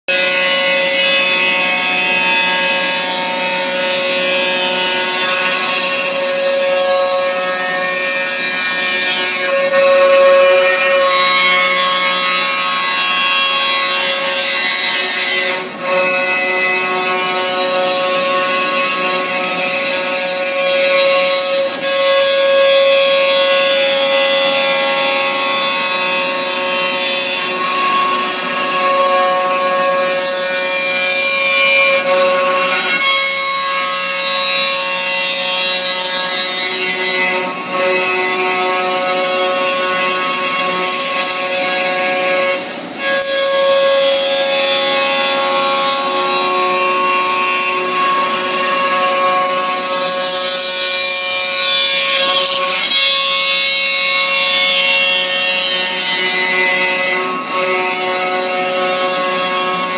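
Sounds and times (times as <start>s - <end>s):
cnc machine spindles whining: 0.1s - 59.9s.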